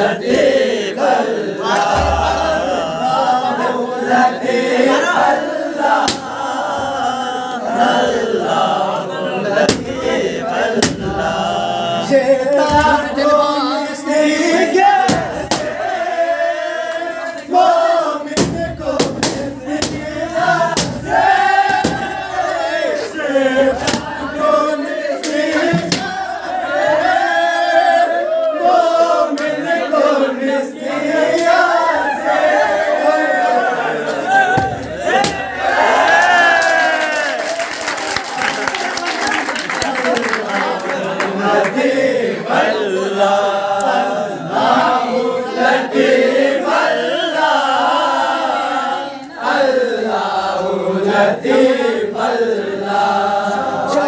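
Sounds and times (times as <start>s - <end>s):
men singing and chanting: 0.0s - 37.1s, 39.8s - 54.0s.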